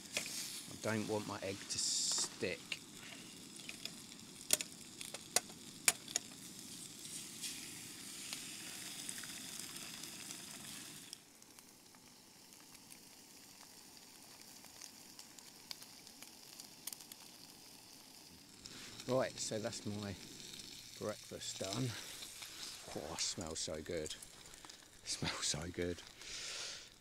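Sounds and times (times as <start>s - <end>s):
bacon and egg sizzling in a frying pan: 0.0s - 27.0s.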